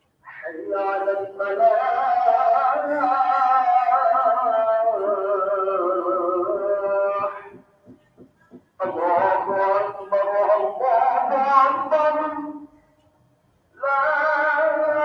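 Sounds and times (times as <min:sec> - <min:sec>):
call to prayer chanting: 0:00.2 - 0:12.8, 0:13.7 - 0:15.0.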